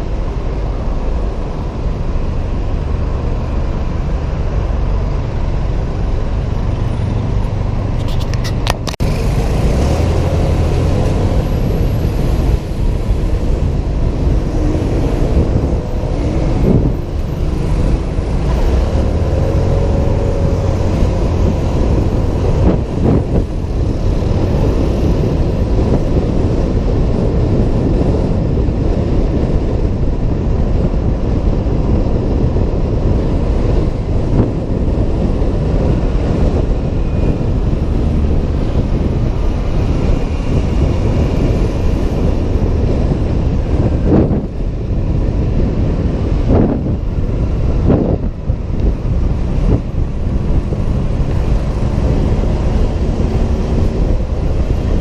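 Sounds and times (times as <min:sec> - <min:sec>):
road noise: 0:00.0 - 0:55.0
traffic noise: 0:00.0 - 0:55.0.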